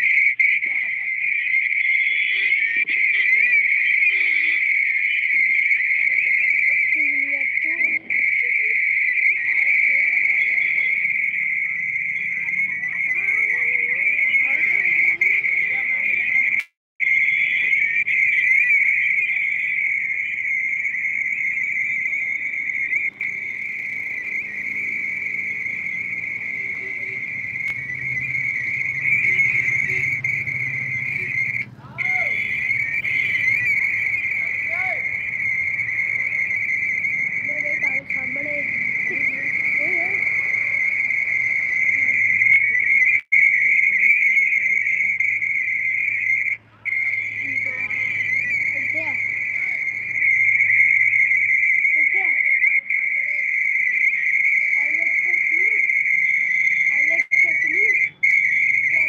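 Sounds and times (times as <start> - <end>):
faint voices: 0.0 - 16.6, 17.2 - 59.0
shrill warbling whine: 0.0 - 59.0.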